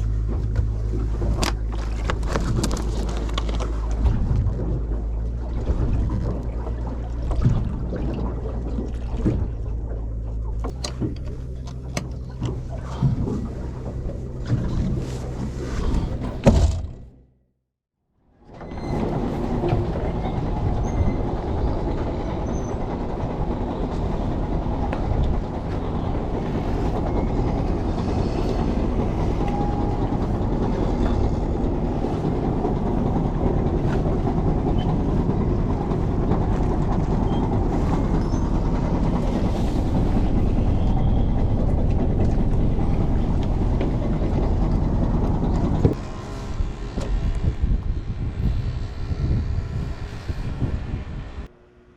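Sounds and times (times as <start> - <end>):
rattling vehicle rumble: 0.0 - 17.4, 18.4 - 51.5.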